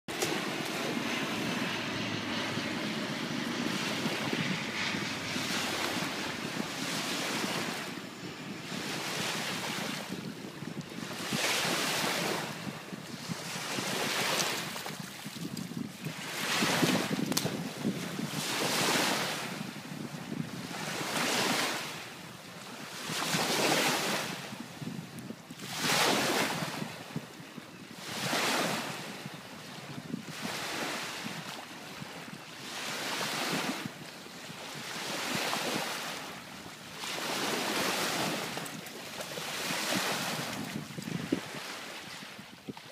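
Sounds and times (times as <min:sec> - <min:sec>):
small waves breaking on beach: 0:00.1 - 0:42.9.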